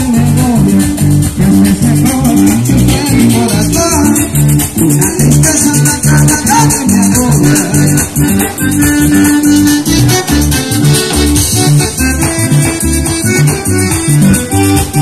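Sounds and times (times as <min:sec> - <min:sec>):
accordion: 0:00.0 - 0:15.0
bass and drums: 0:00.0 - 0:15.0
high percussion pattern: 0:00.0 - 0:15.0.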